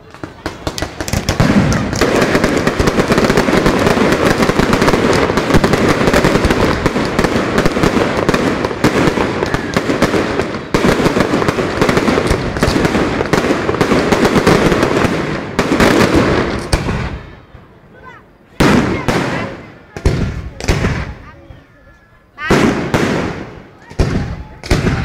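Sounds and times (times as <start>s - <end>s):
fireworks bangs and crackling: 0.0s - 25.0s.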